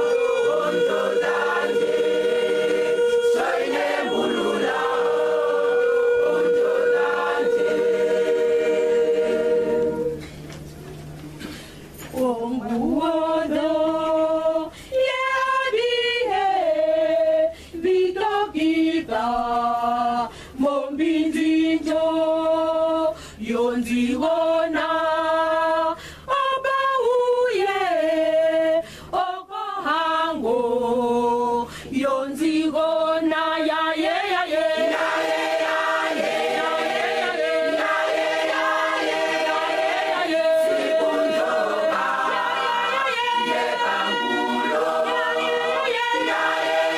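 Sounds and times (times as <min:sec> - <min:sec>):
women's choir singing a cappella: 0:00.0 - 0:10.2, 0:12.1 - 0:46.9.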